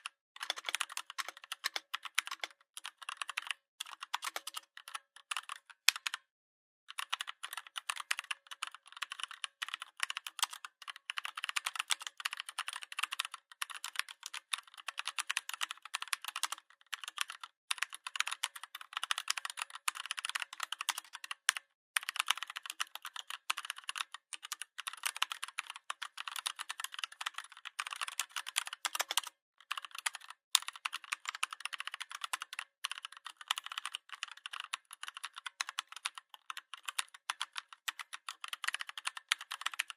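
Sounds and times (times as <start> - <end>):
typing on mechanical keyboard: 0.0 - 6.3, 6.9 - 39.9.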